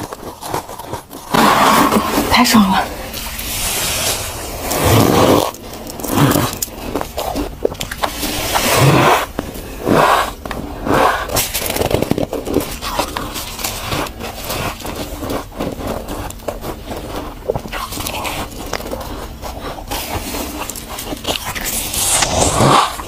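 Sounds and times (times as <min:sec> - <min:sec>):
chewing crunchy frost: 0:00.0 - 0:23.0
gloved hands scraping frost: 0:00.0 - 0:23.0.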